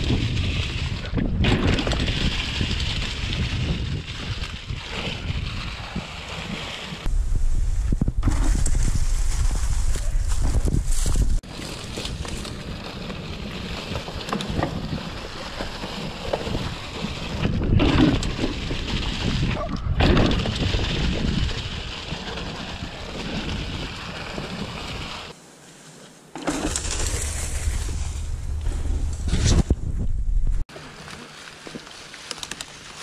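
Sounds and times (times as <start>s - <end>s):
wind rumbling on microphone: 0.0s - 25.3s, 26.6s - 30.7s
bike tyres crunching through leaves: 0.0s - 29.6s, 30.7s - 33.0s.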